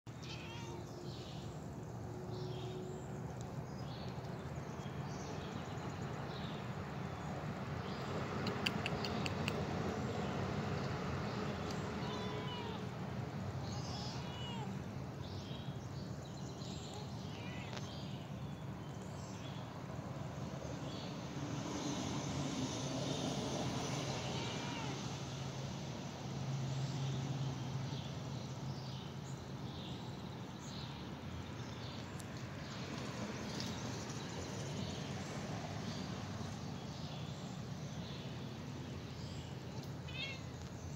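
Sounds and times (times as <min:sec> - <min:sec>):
outdoor background noise: 0:00.1 - 0:40.9.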